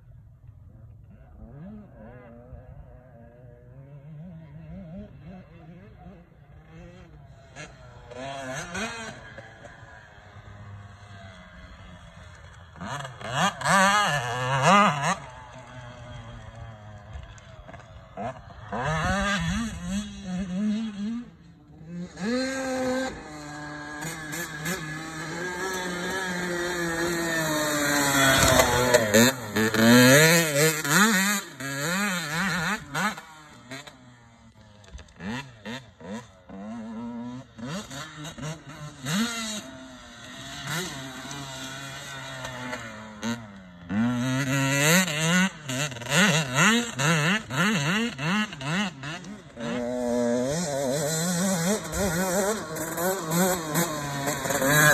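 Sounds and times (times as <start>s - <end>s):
dirt bike engine revving: 1.1s - 54.9s.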